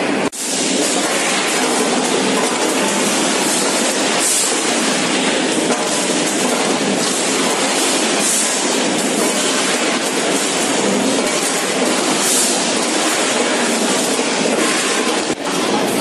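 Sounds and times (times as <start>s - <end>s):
packing line machinery running: 0.0s - 16.0s.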